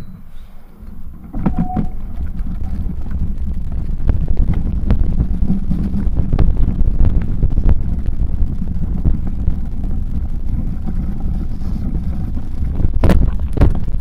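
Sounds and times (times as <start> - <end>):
bicycle rolling on dirt trail: 0.5 - 14.0
wind buffeting the microphone: 0.9 - 14.0.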